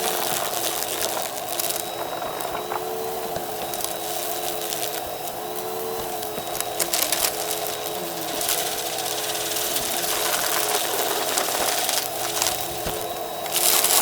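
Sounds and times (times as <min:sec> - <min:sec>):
debris crackling in vacuum: 0:00.0 - 0:14.0
vacuum cleaner motor hum: 0:00.0 - 0:14.0.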